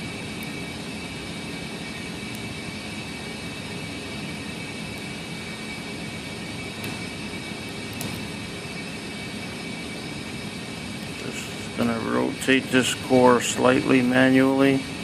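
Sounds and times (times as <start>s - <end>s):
fan whooshing with high whine: 0.0s - 15.0s.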